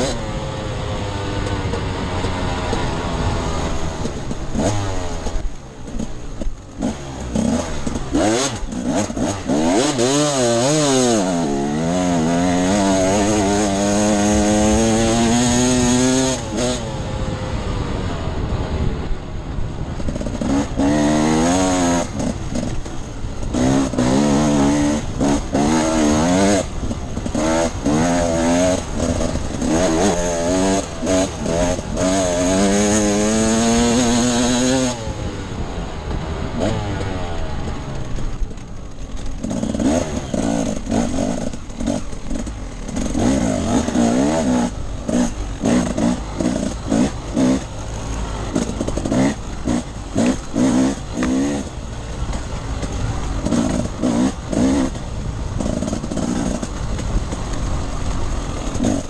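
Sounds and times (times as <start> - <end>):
dirt bike engine revving: 0.0 - 19.0, 19.9 - 59.0.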